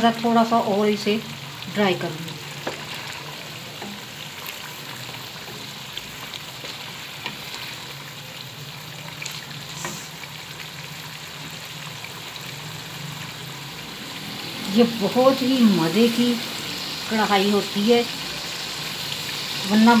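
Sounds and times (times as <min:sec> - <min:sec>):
curry sizzling and bubbling: 0:00.0 - 0:20.0.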